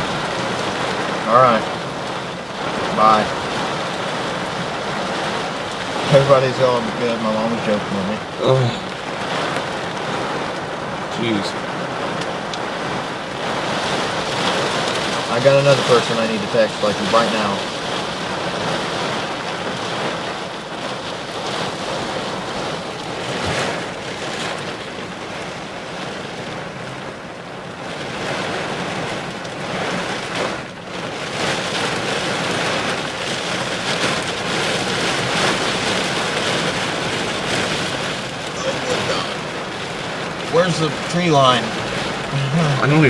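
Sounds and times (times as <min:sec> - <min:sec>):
heavy rain: 0:00.0 - 0:43.0
wind: 0:00.0 - 0:43.0.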